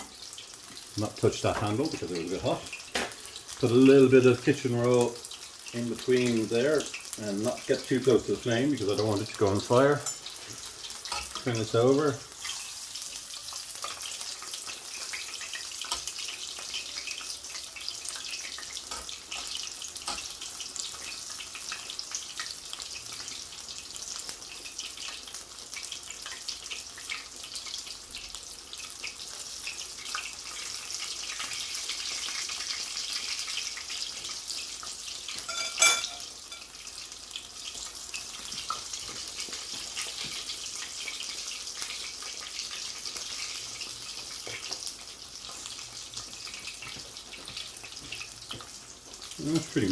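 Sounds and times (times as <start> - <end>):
chicken sizzling in oil: 0.0 - 49.9.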